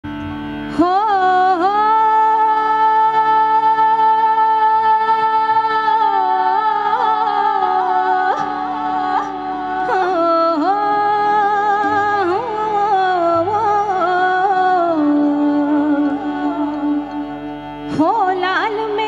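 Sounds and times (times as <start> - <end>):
woman singing into a microphone: 0.6 - 19.0.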